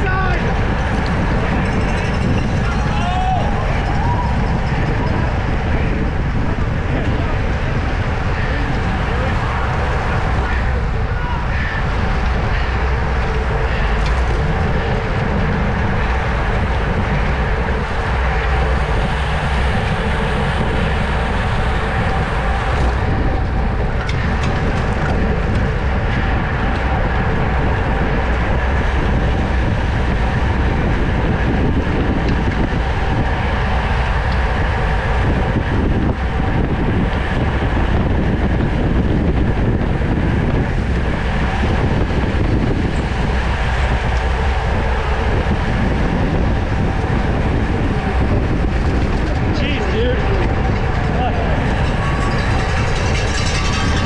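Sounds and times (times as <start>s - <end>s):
bicycle wheels whirring: 0.0s - 54.0s
wind rush on microphone: 0.0s - 54.0s.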